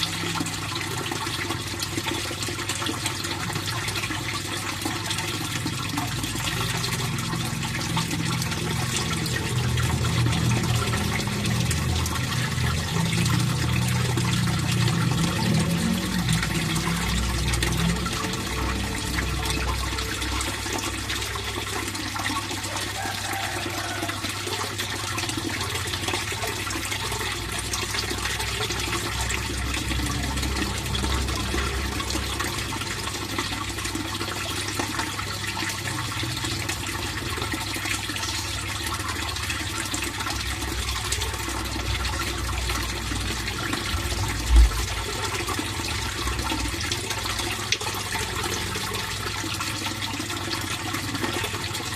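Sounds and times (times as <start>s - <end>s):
pond water trickling: 0.0s - 51.9s.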